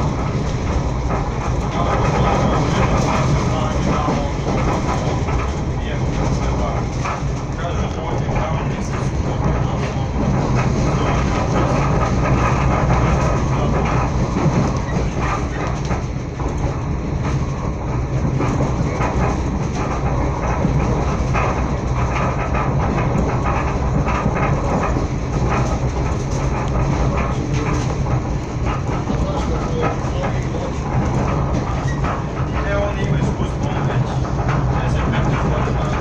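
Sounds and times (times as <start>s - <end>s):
rail clicks: 0.0s - 36.0s
train wheels rumbling on rails: 0.0s - 36.0s.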